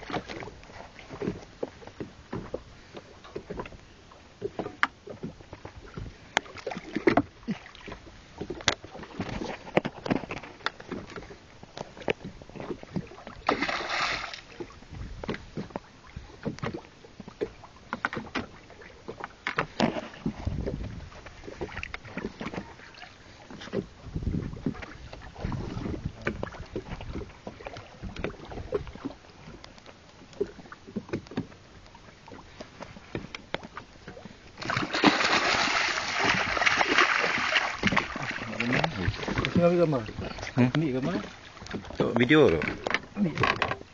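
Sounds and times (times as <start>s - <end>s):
water rushing and splashing: 0.0s - 43.9s.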